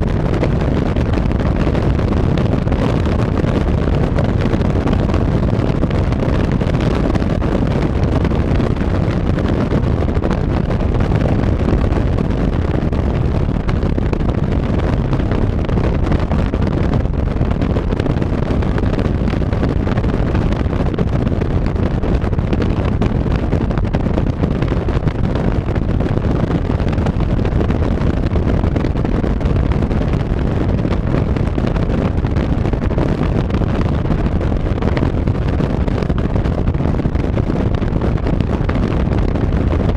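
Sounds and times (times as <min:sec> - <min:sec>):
road and engine noise: 0:00.0 - 0:39.9
wind rushing over microphone: 0:00.0 - 0:39.9.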